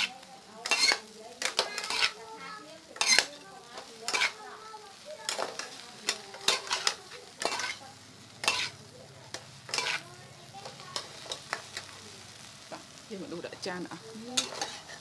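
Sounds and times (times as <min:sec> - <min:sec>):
utensils scraping a metal wok: 0:00.0 - 0:12.1, 0:13.3 - 0:15.0
frying sizzle: 0:00.0 - 0:15.0.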